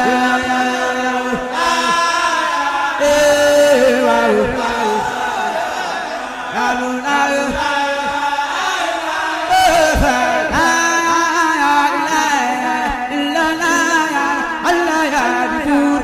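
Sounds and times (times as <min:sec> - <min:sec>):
vocal chanting: 0:00.0 - 0:16.0.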